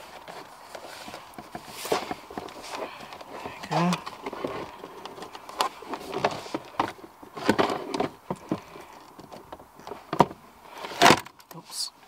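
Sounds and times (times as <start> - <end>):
loose wires rustling: 0.0 - 12.0.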